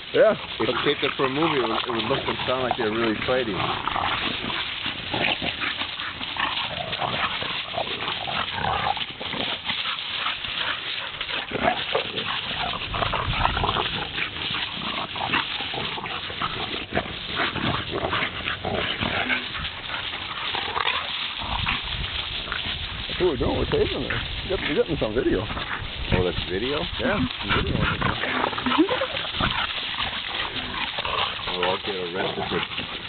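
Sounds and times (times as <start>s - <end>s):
dogs scuffling: 0.0s - 33.0s
dogs snarling and growling: 0.0s - 33.0s.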